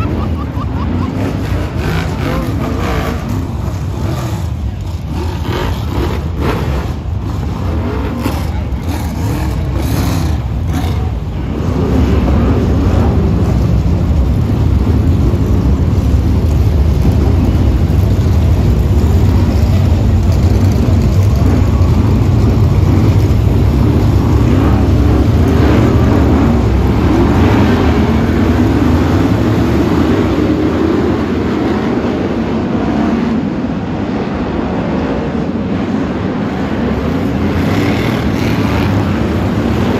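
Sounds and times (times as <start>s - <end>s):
race car engines roaring: 0.0s - 39.9s.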